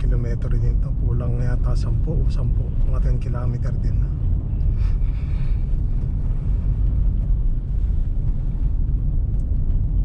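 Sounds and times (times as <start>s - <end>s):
car driving on snowy road: 0.0s - 10.0s.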